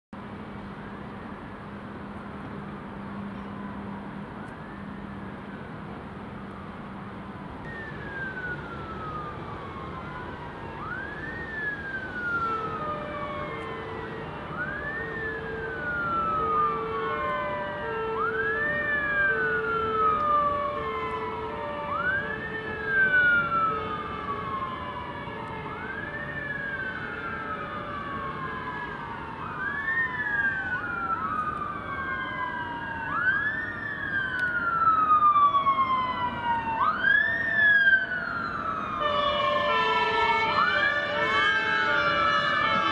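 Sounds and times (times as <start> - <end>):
fire engine sirens wailing: 0.3 - 42.9.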